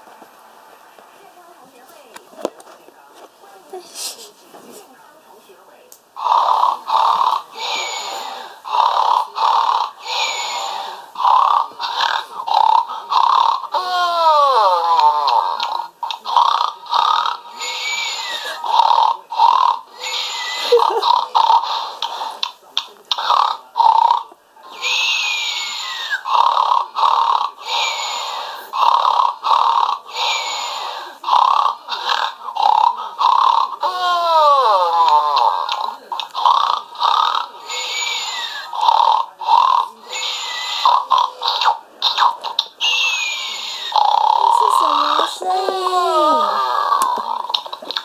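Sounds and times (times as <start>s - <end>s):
toy bear recorded snore: 6.2s - 48.0s.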